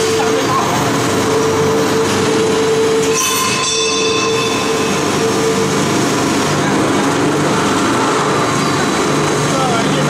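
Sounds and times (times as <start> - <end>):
machine hum: 0.0 - 10.0
machine mechanical noise: 0.0 - 10.0.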